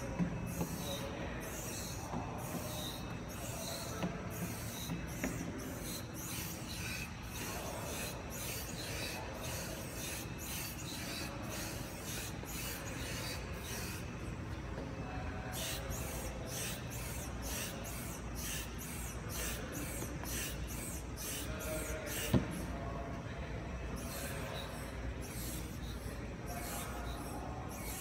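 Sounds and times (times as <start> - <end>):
hydraulic cylinders hissing and rubbing: 0.0 - 14.7, 15.4 - 22.8, 23.8 - 28.0.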